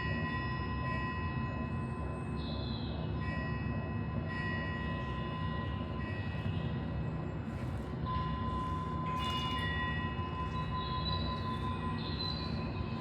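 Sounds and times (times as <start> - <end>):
sustained bell tones: 0.0 - 2.4, 3.2 - 7.2, 8.0 - 13.0.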